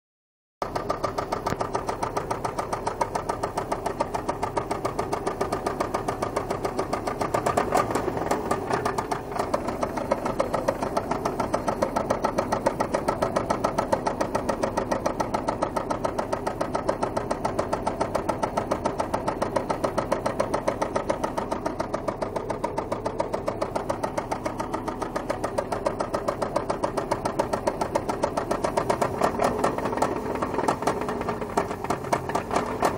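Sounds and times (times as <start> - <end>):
car engine knocking rapidly: 0.6 - 32.9.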